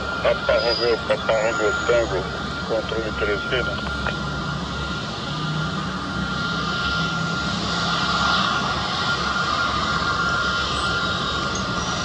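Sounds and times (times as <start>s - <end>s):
jet engines rumbling with whine: 0.0s - 12.0s.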